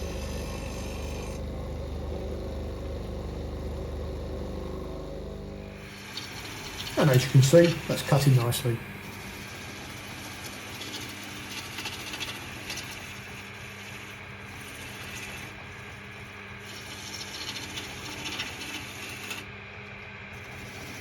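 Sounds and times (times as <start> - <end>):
gouge cutting spinning wood: 0.0 - 21.0
wood lathe humming: 0.0 - 21.0.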